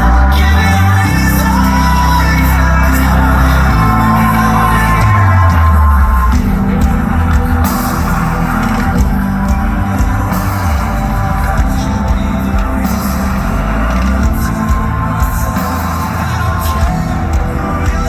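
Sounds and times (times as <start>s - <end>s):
drums hitting steadily: 0.0s - 18.0s
heavy rock band playing: 0.0s - 18.0s
low bass line: 0.0s - 18.0s.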